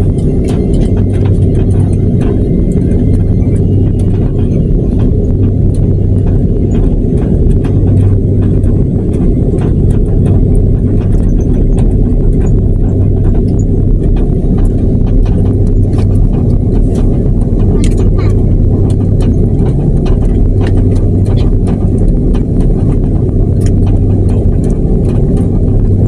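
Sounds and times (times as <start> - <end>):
airliner engines humming: 0.0 - 26.0
wheels clicking and knocking: 0.0 - 26.0.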